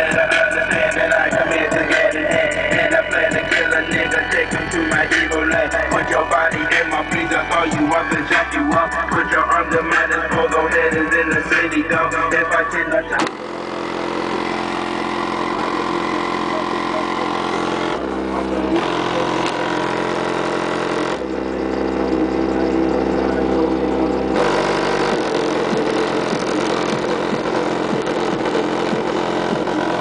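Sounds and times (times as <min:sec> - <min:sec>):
muffled bass-heavy music: 0:00.0 - 0:30.0
very deep bass notes: 0:00.0 - 0:30.0.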